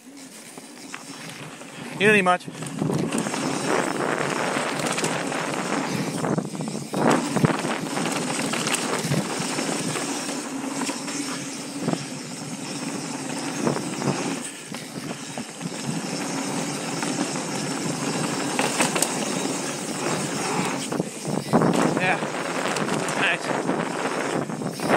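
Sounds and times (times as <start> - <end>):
tyres on dirt: 0.0 - 24.9
bike clattering over bumps: 0.1 - 24.9
wind rushing on microphone: 1.9 - 10.4, 11.3 - 24.9.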